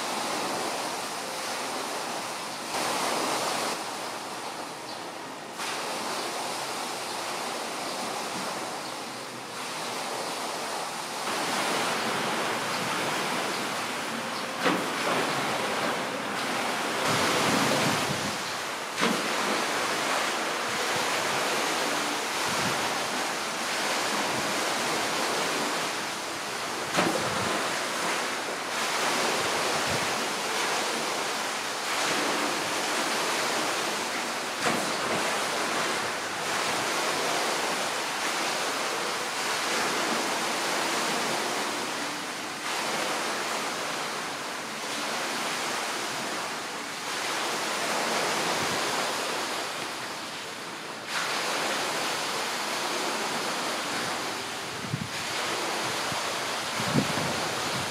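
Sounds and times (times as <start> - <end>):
steady rushing noise: 0.0 - 57.9.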